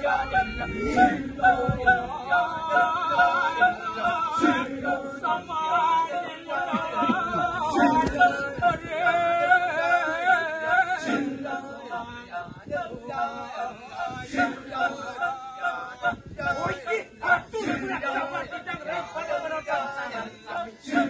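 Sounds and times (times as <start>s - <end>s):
group of voices chanting: 0.0s - 21.0s.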